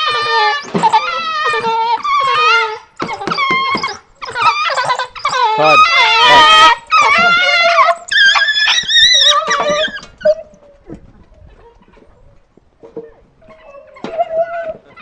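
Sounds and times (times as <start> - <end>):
dogs whining and yelping: 0.0 - 15.0.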